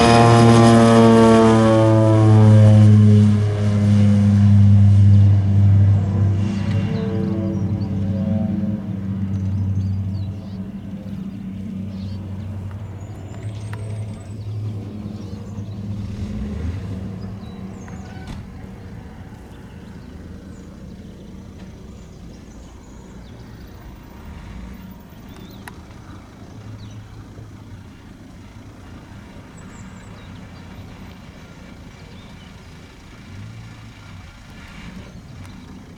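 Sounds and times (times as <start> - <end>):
turboprop plane droning: 0.0 - 35.9.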